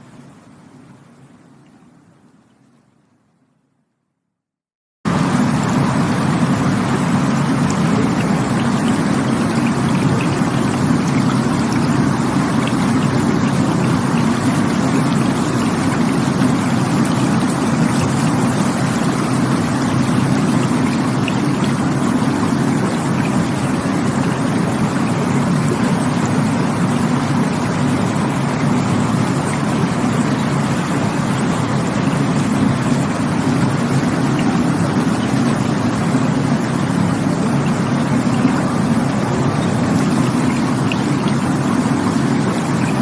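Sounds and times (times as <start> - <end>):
rushing stream water: 5.1 - 43.0.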